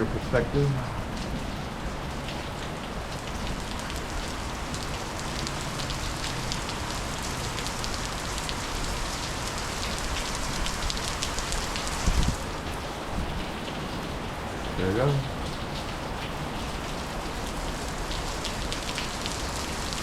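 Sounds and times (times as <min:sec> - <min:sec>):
heavy rain hissing and pattering: 0:00.0 - 0:20.0.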